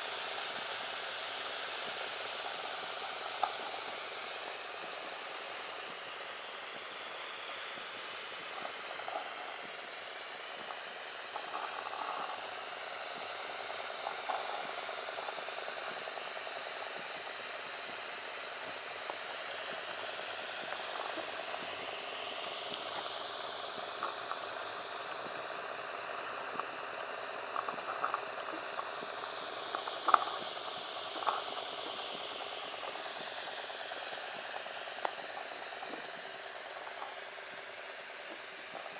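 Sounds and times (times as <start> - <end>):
hiss of escaping steam: 0.0 - 38.9.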